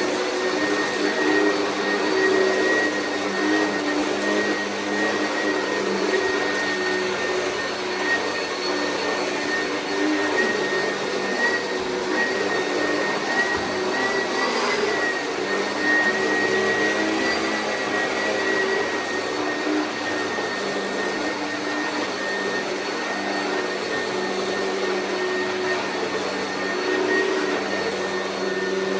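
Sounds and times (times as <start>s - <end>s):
vacuum cleaner running: 0.0s - 28.9s.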